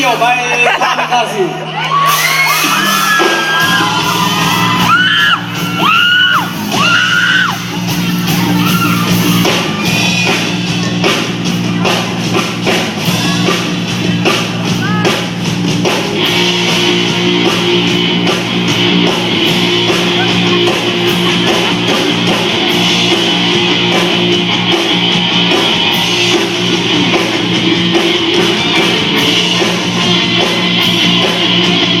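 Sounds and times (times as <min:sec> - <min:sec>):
electric guitar: 0:01.5 - 0:32.0.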